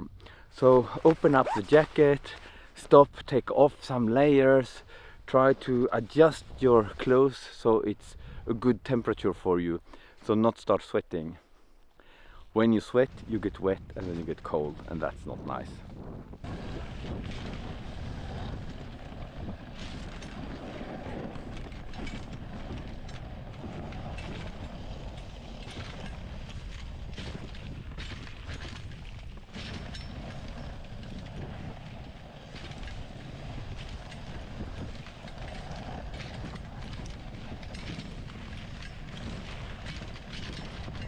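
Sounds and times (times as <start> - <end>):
sled runners on snow: 0.1 - 10.4, 12.3 - 41.0.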